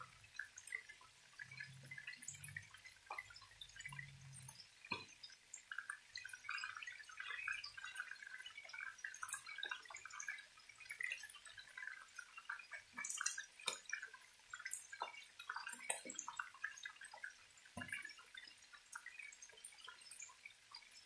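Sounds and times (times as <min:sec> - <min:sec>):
chicken frying in oil: 0:00.0 - 0:21.0.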